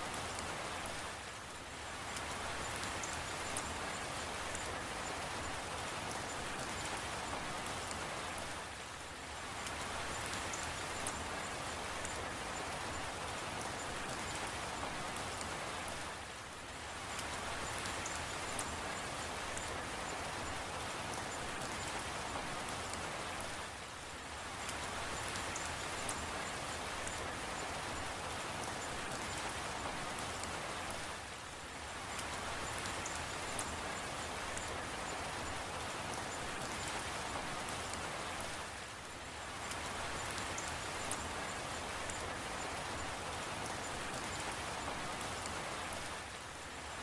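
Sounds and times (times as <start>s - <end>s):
steady rain falling: 0.0s - 47.0s
rain drop ticks: 2.0s - 8.5s, 9.6s - 16.0s, 17.0s - 23.6s, 24.5s - 31.1s, 32.1s - 38.9s, 39.5s - 46.2s.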